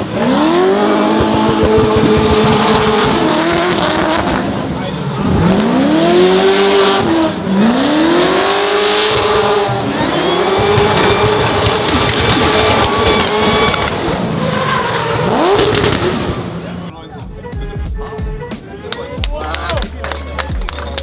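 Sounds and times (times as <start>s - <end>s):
car engine at high revs: 0.0s - 16.9s
spinning tyres rushing: 0.0s - 16.9s.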